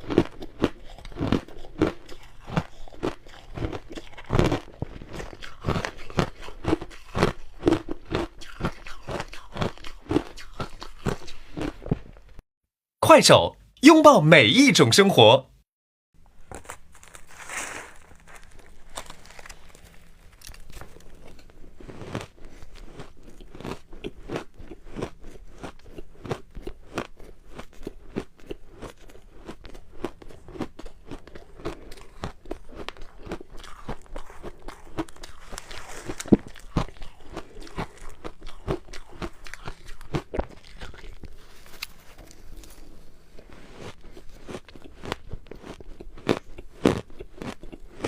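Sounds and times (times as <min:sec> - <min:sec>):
ice being chewed: 0:00.0 - 0:12.2, 0:16.5 - 0:48.0.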